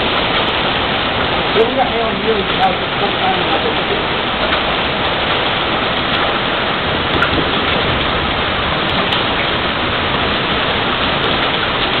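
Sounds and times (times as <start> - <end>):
hail falling heavily: 0.0 - 12.0.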